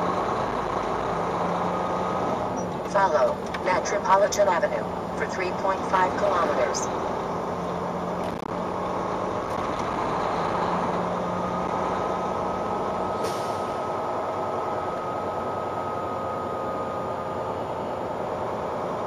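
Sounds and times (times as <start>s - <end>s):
diesel engine rumble: 0.0s - 19.0s
road noise: 0.0s - 19.0s.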